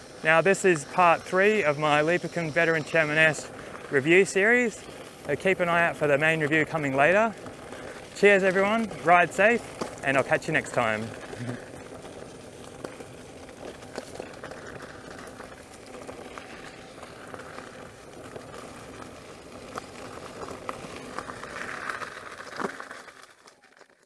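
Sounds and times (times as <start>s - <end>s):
unicycle tyre and ride noise: 0.0s - 24.0s.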